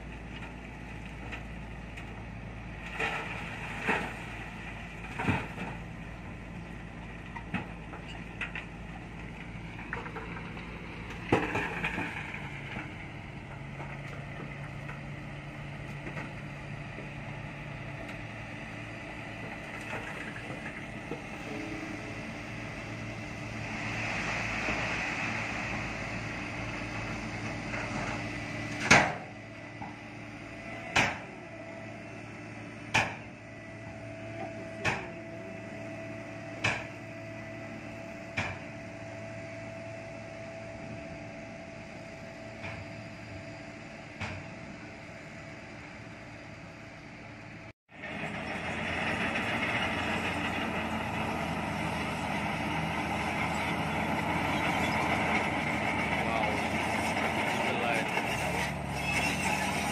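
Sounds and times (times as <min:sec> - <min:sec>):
dirt sliding from dump truck: 0:00.0 - 0:37.1, 0:48.0 - 0:59.9
heavy construction machinery running: 0:00.0 - 0:59.9.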